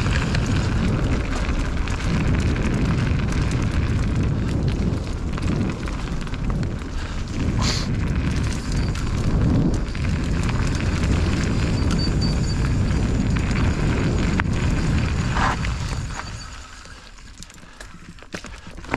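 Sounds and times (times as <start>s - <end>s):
wind buffeting microphone: 0.0s - 16.7s
bike rattling and knocking: 0.0s - 18.9s.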